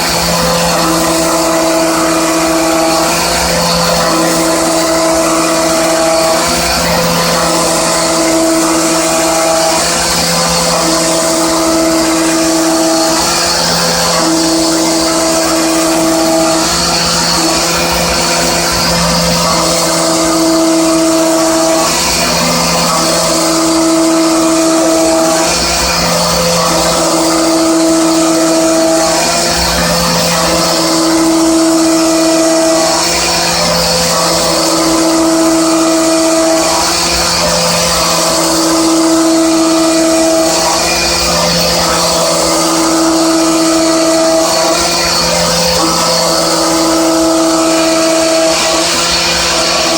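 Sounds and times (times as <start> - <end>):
higher cutting tone: 0.0 - 49.9
milling machine cutting tone: 0.0 - 49.9.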